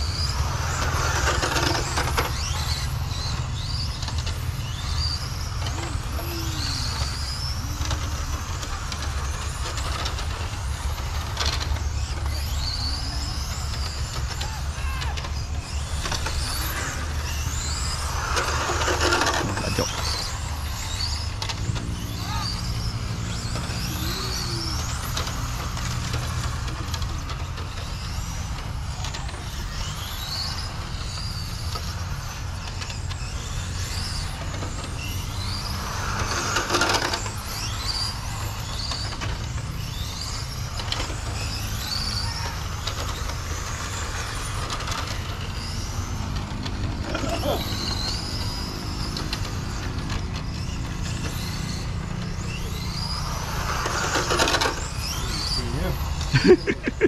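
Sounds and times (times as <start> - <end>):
rc car motors whining: 0.0 - 57.0.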